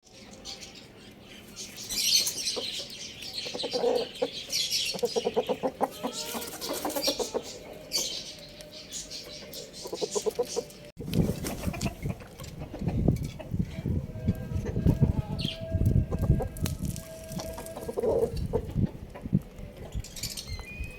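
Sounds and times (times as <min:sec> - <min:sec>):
chickens clucking and squawking: 0:00.1 - 0:20.5.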